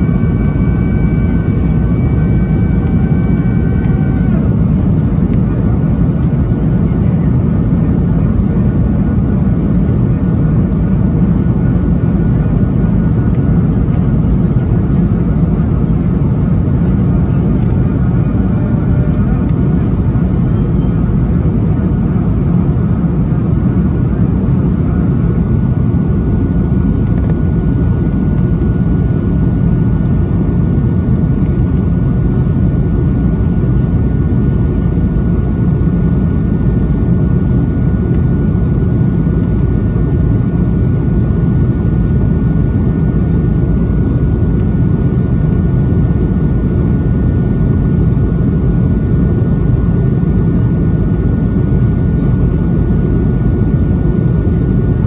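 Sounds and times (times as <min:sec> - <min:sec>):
faint steady whine: 0:00.0 - 0:55.0
jet engine drone and rushing air: 0:00.0 - 0:55.0.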